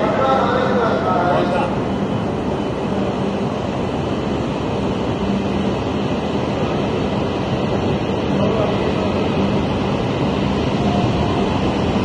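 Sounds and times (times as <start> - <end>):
low hum: 0.0 - 12.0
train wheels and air rumbling: 0.0 - 12.0.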